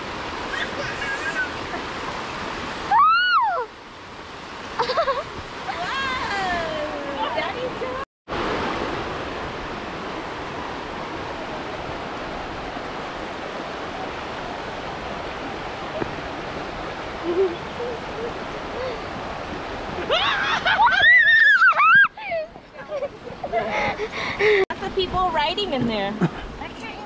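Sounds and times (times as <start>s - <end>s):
water rushing over rocks: 0.0s - 26.9s.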